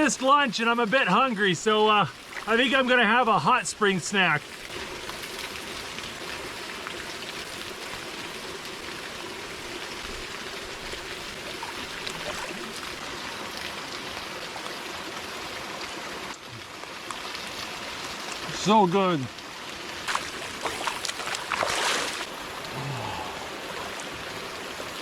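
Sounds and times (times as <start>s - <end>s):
water pouring into pool: 0.0s - 3.6s, 4.2s - 25.0s.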